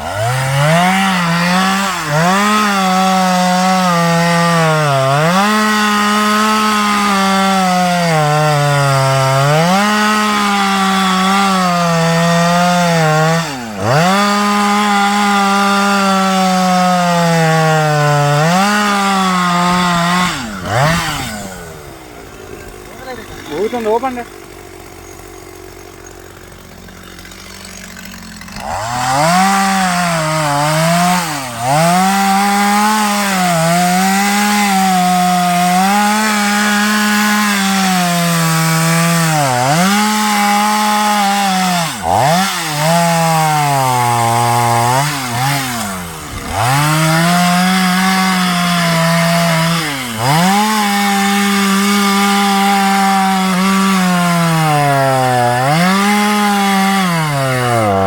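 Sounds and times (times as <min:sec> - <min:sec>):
chainsaw cutting tree: 0:00.0 - 0:58.0.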